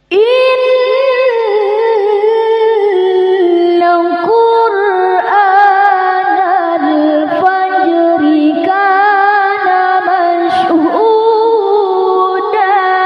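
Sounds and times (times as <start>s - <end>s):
woman chanting into a microphone: 0.0s - 13.0s.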